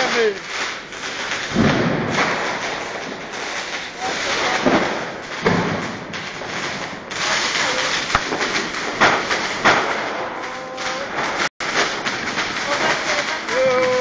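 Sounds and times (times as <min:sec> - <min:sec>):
fireworks and firecrackers: 0:00.0 - 0:14.0
heavy firework booms: 0:00.0 - 0:14.0
sharp firework crack: 0:00.0 - 0:14.0.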